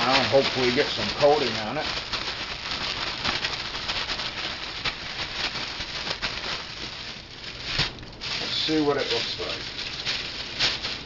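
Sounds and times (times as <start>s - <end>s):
bag of batter mix shaken: 0.0s - 11.0s.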